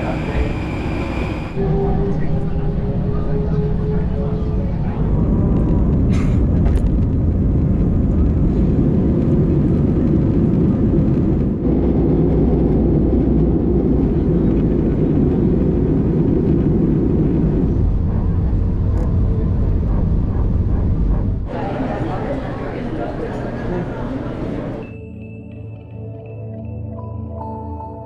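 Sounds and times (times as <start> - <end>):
engine rumble: 0.0 - 24.9.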